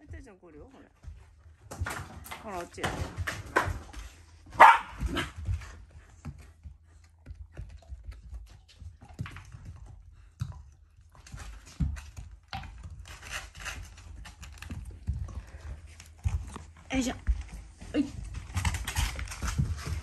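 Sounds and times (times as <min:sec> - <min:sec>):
dog claws tapping on floor mat: 0:00.0 - 0:20.0.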